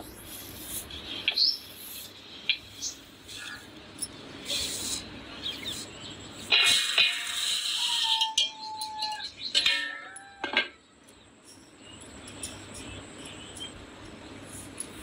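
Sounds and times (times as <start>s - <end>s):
bird chirping: 0.0s - 6.5s, 8.1s - 14.7s.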